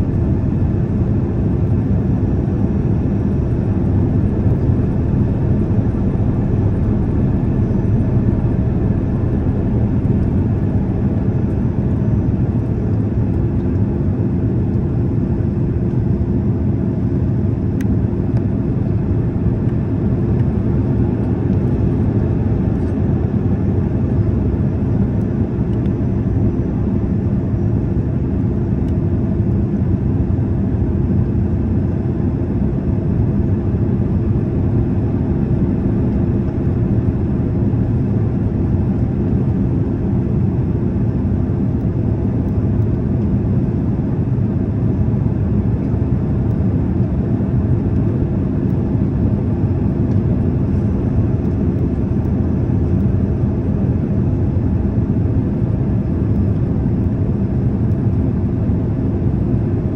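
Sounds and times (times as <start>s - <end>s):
airliner cabin engine rush: 0.0s - 59.9s
steady hum: 0.0s - 59.9s.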